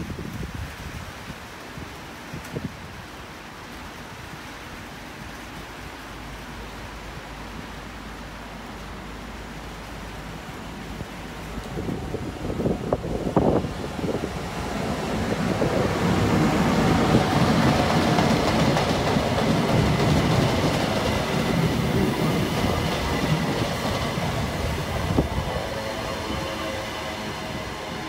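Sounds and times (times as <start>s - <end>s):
wheels rumbling on rails: 3.6s - 28.0s
diesel train passing: 4.4s - 28.0s.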